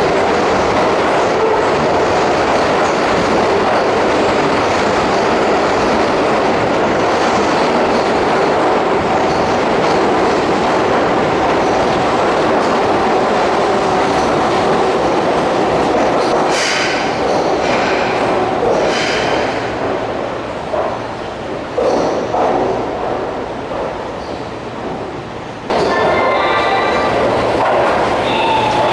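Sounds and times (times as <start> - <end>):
wheels clacking over rail joints: 0.0 - 26.3
electric train rumbling: 0.0 - 28.9.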